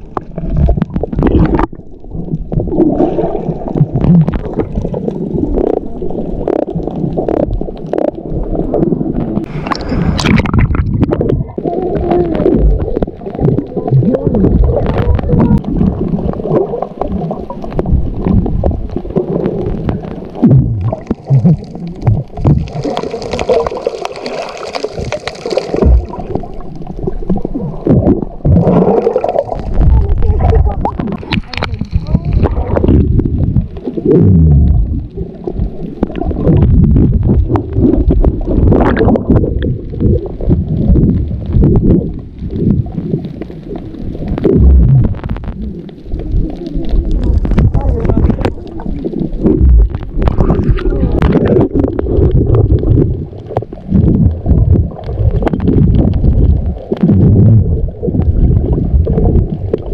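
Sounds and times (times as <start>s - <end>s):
rush of water: 0.0s - 59.9s
water sloshing and gurgling: 0.0s - 59.9s.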